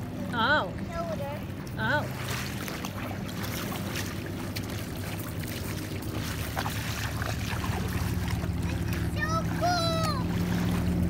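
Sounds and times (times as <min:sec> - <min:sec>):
feet wading through water: 0:00.0 - 0:11.0
motorboat engine humming: 0:00.0 - 0:11.0.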